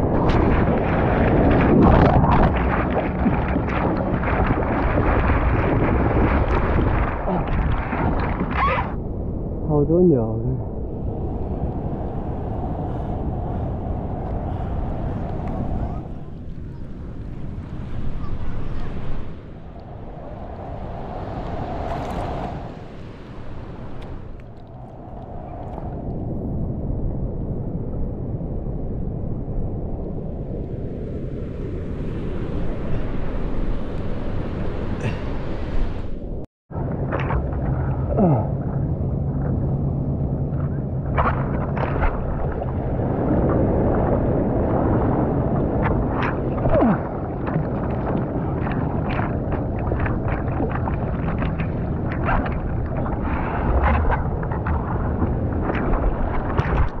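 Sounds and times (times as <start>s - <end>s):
water splashing and rushing: 0.0s - 57.0s
wind buffeting microphone: 0.0s - 57.0s.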